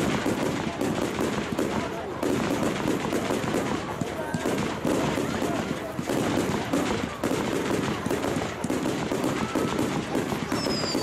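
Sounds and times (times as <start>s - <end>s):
fireworks crackling and popping: 0.0s - 11.0s
whistling fireworks: 0.0s - 11.0s.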